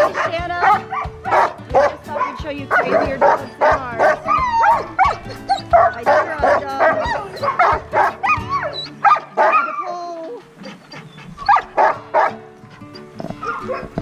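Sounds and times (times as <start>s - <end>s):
dogs barking and yipping: 0.0s - 14.0s.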